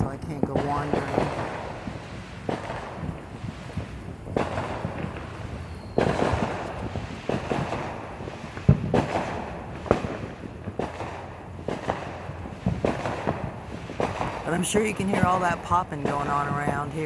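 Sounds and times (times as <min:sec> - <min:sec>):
distant fireworks popping and banging: 0:00.0 - 0:17.0.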